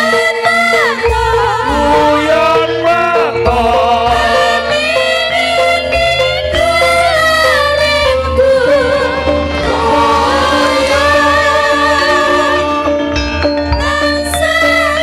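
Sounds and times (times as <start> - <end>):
women singing in unison: 0.0 - 2.7, 3.5 - 13.0, 13.7 - 15.0
instrumental accompaniment: 0.0 - 15.0.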